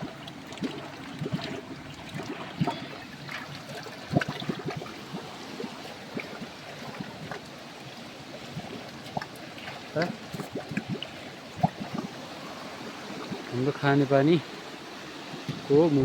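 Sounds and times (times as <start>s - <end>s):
water trickling with drips: 0.0s - 16.0s.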